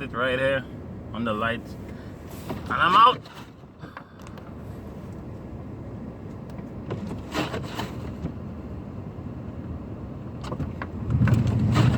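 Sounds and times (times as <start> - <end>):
car cabin rumble: 0.0 - 11.9.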